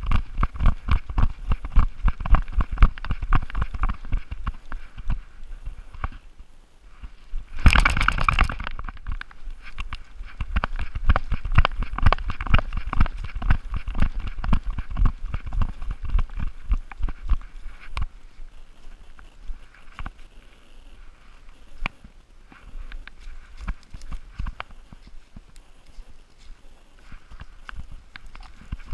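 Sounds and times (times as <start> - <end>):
rustling leaves and brush: 0.0 - 28.9.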